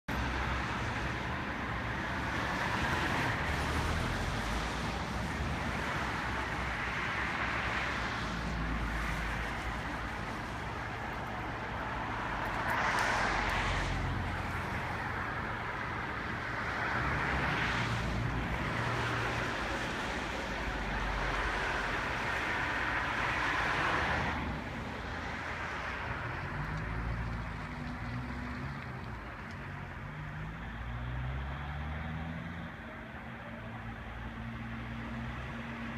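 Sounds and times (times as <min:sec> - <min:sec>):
outdoor rushing noise: 0:00.1 - 0:35.9.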